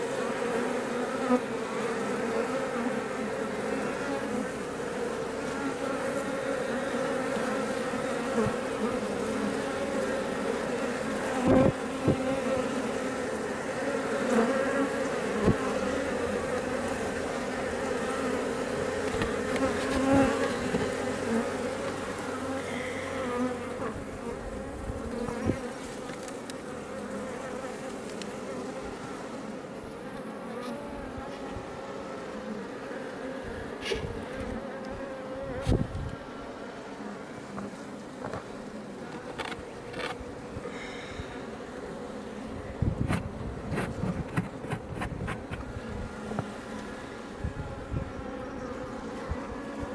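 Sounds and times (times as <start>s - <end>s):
bees buzzing: 0.0s - 49.9s
single bees flying past: 0.0s - 49.9s.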